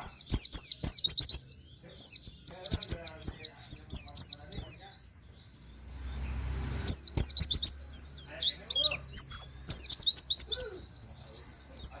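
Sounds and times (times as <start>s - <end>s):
bird singing high chirps: 0.0s - 12.0s.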